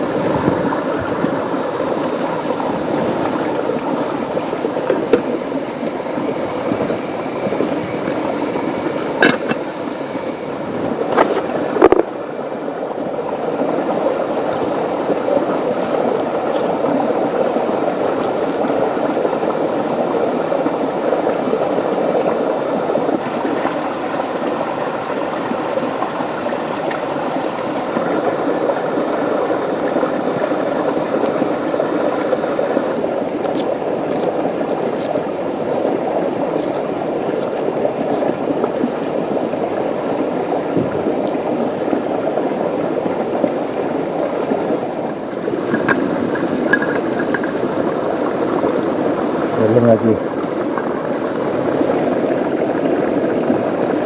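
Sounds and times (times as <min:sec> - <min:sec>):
thin high steady tone: 0:00.0 - 0:21.7, 0:22.5 - 0:54.0
rain: 0:00.0 - 0:54.0.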